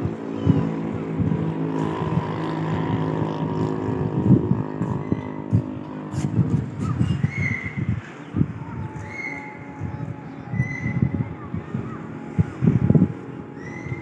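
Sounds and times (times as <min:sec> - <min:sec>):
engine droning hum: 0:00.0 - 0:14.0.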